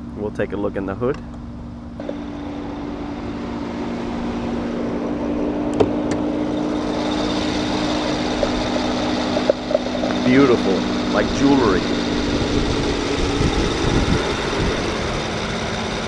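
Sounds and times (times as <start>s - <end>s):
car engine idling: 1.0s - 16.0s.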